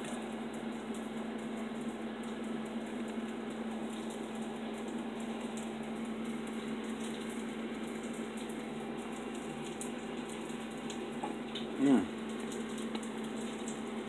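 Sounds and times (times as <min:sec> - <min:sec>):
fan motor humming: 0:00.0 - 0:14.0.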